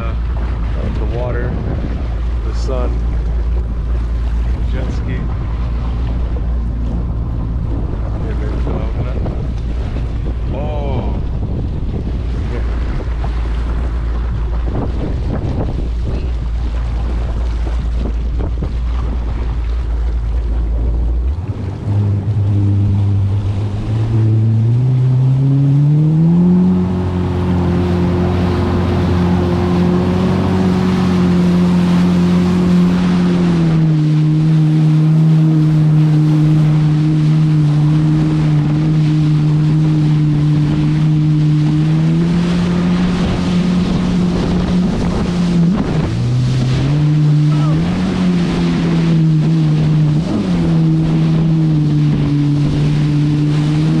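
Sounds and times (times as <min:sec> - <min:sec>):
jet ski engine: 0:00.0 - 0:54.0
wind rumble on microphone: 0:00.0 - 0:54.0.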